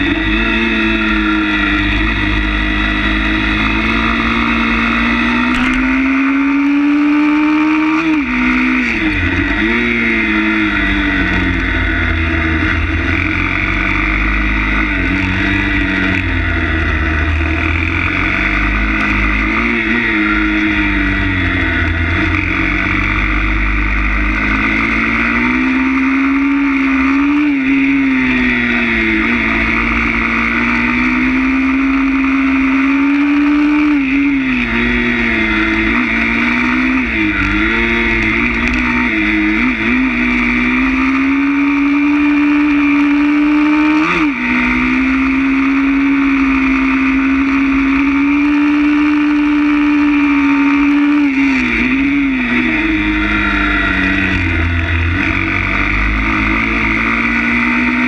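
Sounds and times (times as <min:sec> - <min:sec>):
motorbike engine running: 0:00.0 - 0:58.0.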